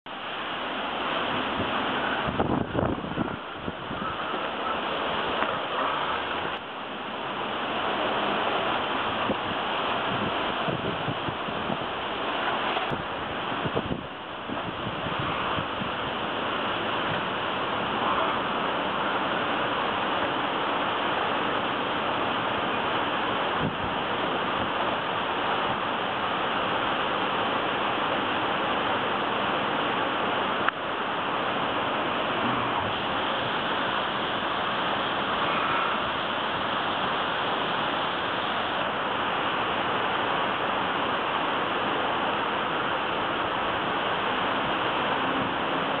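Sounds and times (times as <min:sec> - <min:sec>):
rain: 0:00.0 - 0:46.0
strong wind rushing through trees: 0:00.1 - 0:46.0.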